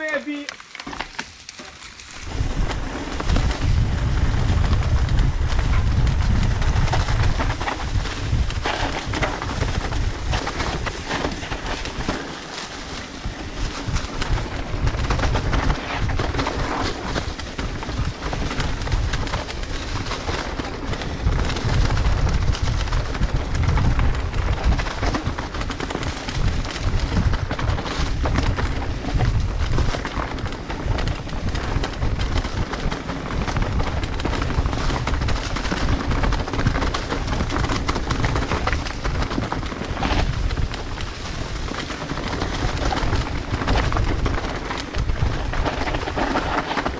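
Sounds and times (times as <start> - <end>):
bike rattling and clicking: 0.0 - 46.9
tyres crunching through leaves: 0.0 - 46.9
wind rumble on microphone: 2.2 - 46.9.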